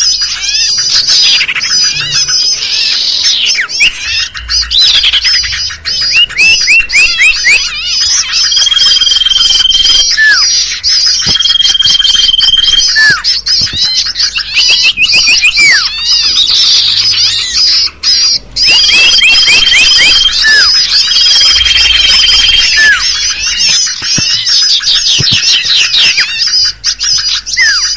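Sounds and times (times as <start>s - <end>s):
long level bird whistle: 0.0s - 27.9s
small birds chattering: 0.0s - 27.9s.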